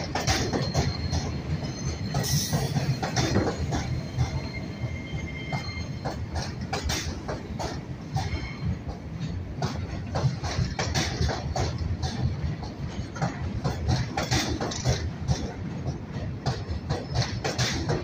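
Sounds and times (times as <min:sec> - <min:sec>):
train rumble: 0:00.0 - 0:18.0
train wheels clacking over rail joints: 0:00.0 - 0:18.0.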